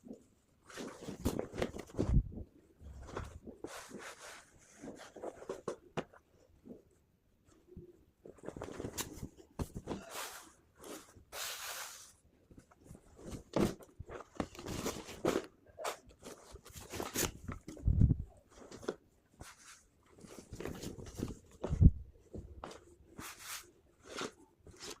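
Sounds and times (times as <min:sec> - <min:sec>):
rustling and crinkling of wrapping: 0:00.6 - 0:06.8, 0:08.2 - 0:25.0.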